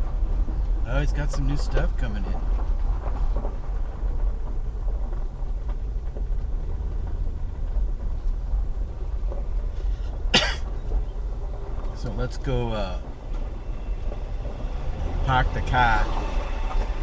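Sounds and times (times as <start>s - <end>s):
car engine rumble: 0.0s - 17.0s
road noise: 0.0s - 17.0s.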